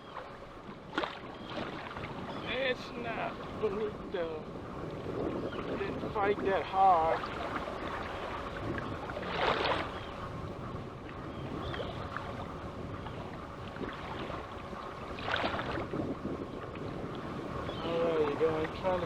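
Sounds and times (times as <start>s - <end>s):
water lapping around kayak: 0.0s - 19.0s
wind rumble on microphone: 0.0s - 19.0s.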